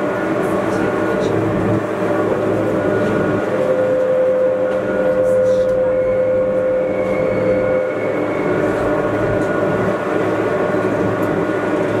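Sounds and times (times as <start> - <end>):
electric train running: 0.0 - 12.0
train whine: 0.0 - 12.0.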